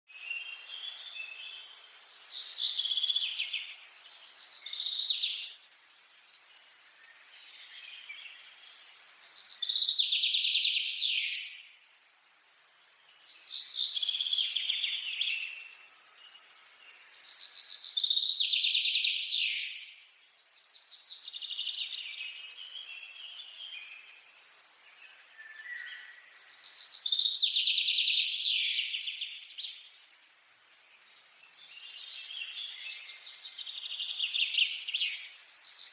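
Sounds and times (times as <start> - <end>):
songbird singing: 0.1 - 35.9.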